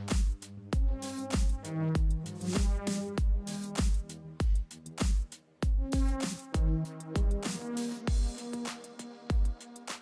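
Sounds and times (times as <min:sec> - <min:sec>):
kick drum beat: 0:00.0 - 0:07.5, 0:08.1 - 0:08.4, 0:09.3 - 0:09.6.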